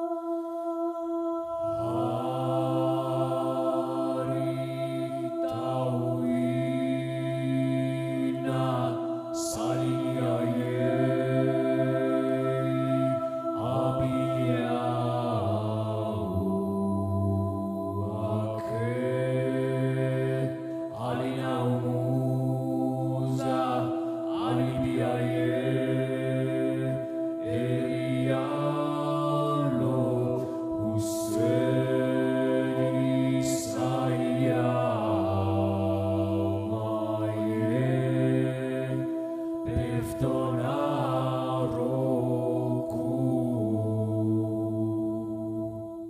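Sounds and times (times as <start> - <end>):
voices chanting: 0.0 - 45.8
held vocal drone: 0.0 - 46.0.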